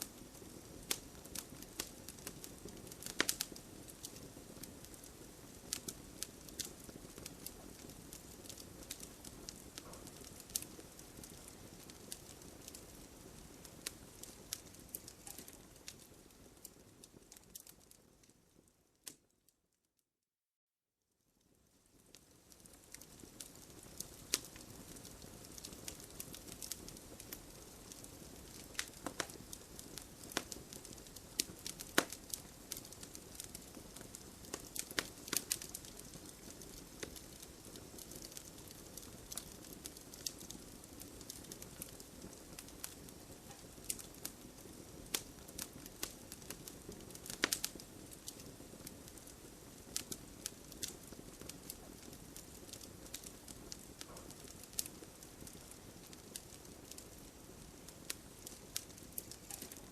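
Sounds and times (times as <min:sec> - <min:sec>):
wood fire crackling: 0:00.0 - 0:19.5, 0:21.4 - 0:59.9.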